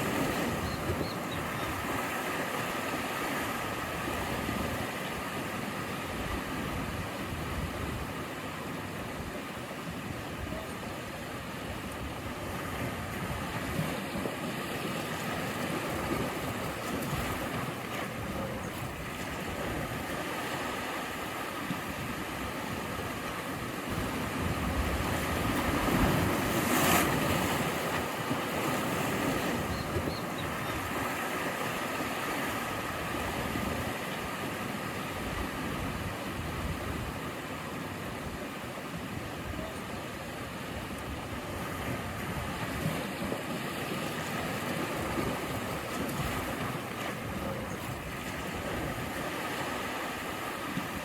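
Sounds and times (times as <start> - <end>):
sea waves breaking: 0.0 - 51.0.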